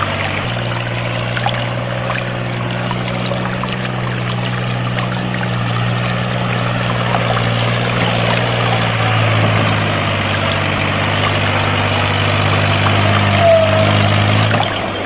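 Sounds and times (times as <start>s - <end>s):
pump low hum: 0.0s - 15.0s
water pouring and splashing: 0.0s - 15.0s.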